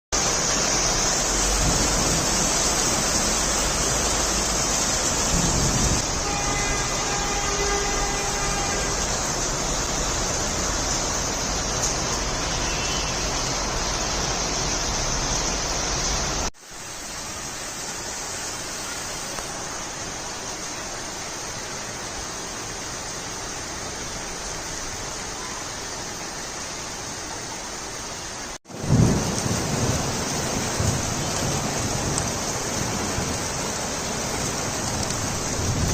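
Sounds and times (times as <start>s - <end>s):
heavy rainfall: 0.1s - 35.9s.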